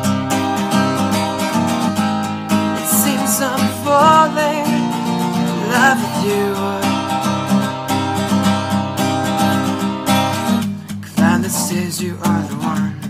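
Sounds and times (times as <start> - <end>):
love song with acoustic guitar: 0.0 - 13.0.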